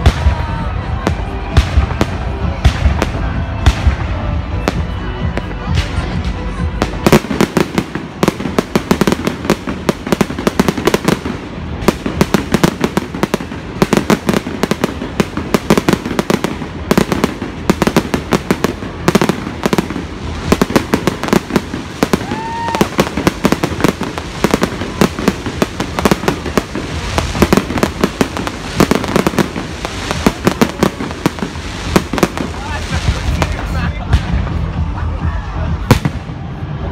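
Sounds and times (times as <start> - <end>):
fireworks bursting and crackling: 0.0 - 36.9.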